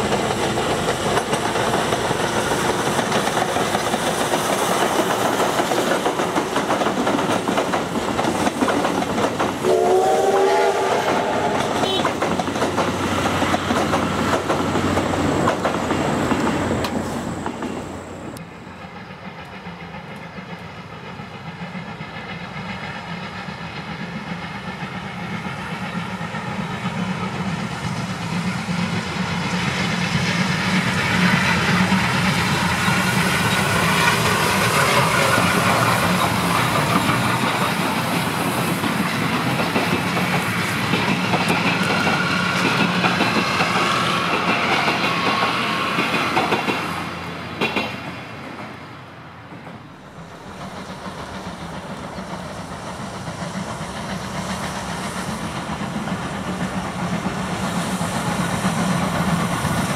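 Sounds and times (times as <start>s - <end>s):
train wheels clicking over rail joints: 0.0s - 48.8s, 49.5s - 59.9s
distant train: 0.0s - 59.9s.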